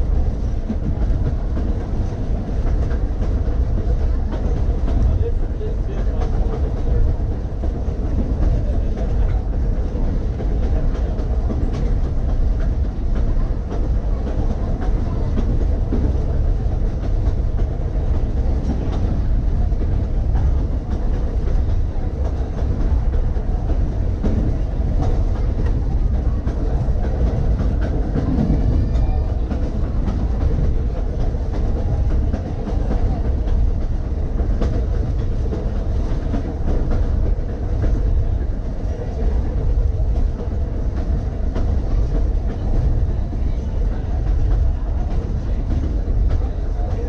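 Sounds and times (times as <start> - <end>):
rail joint clicks: 0.0 - 47.0
rumble of wheels on rail: 0.0 - 47.0.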